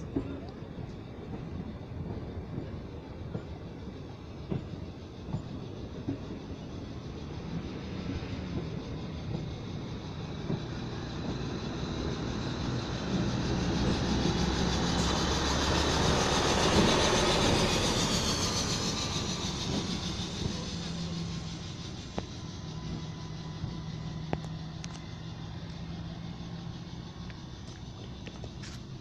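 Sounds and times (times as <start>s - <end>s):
train rumbling past on rails: 0.0s - 29.0s.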